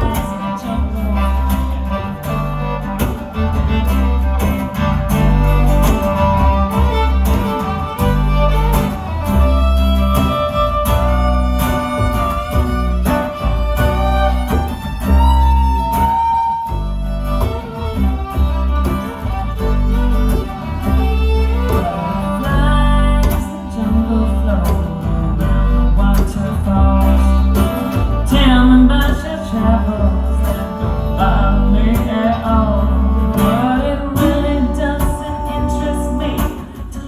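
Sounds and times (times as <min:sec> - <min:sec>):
fiddle playing melody: 0:00.0 - 0:37.0
strummed guitar: 0:00.0 - 0:37.0
walking bass: 0:00.0 - 0:37.0.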